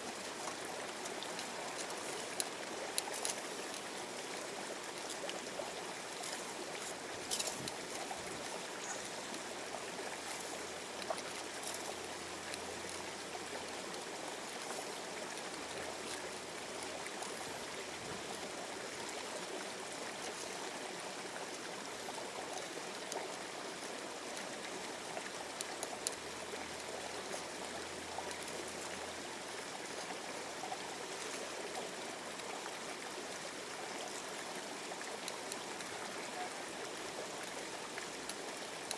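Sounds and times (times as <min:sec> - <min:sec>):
river water running: 0:00.0 - 0:38.9.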